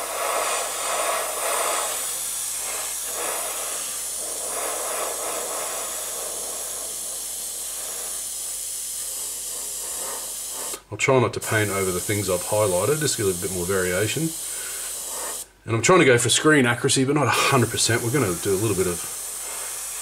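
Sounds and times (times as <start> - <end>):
airbrush hissing: 0.0 - 15.6, 17.2 - 20.0.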